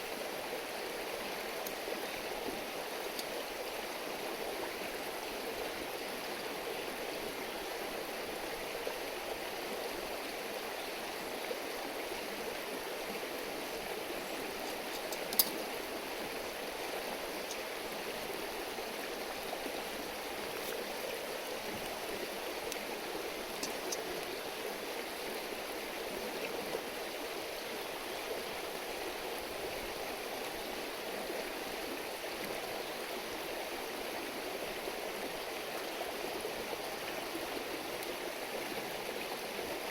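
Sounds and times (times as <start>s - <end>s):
river stream babbling: 0.0s - 39.9s.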